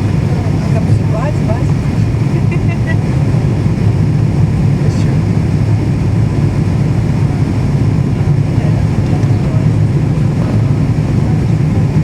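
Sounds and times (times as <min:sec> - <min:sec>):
jet cabin engine rumble: 0:00.0 - 0:12.0.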